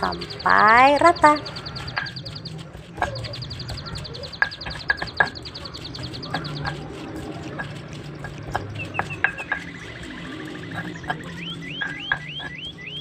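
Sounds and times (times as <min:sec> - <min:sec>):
rapid high ticking call: 0:00.0 - 0:13.0
stone pestle grinding in mortar: 0:00.0 - 0:13.0.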